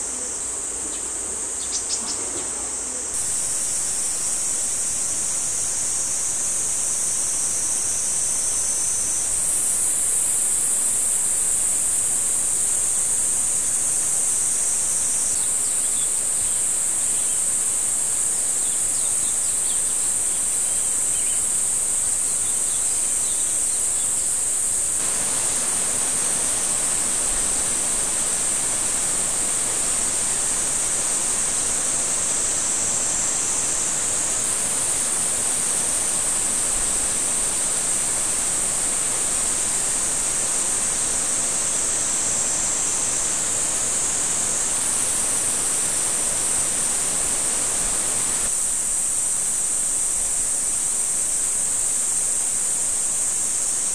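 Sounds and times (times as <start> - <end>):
cicadas droning: 0.0 - 53.9
even hiss: 0.0 - 53.9.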